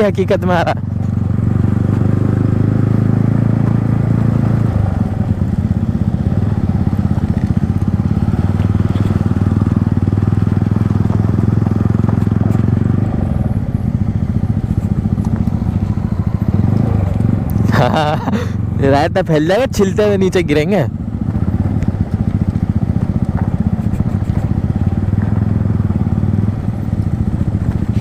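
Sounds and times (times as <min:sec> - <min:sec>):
motorcycle engine running at low revs: 0:00.0 - 0:28.0.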